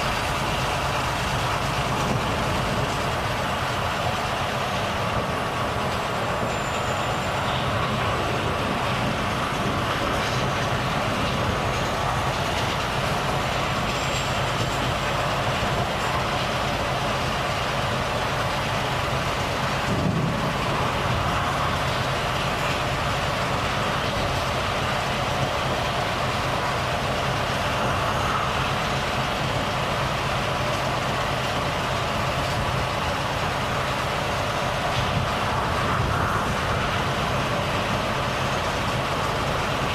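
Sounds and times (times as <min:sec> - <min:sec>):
road and tyre noise: 0:00.0 - 0:39.9
truck engine running: 0:00.0 - 0:39.9.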